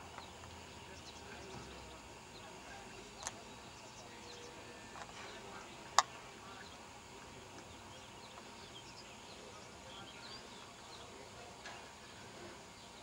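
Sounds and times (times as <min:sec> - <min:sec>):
low outdoor background noise: 0:00.0 - 0:13.0.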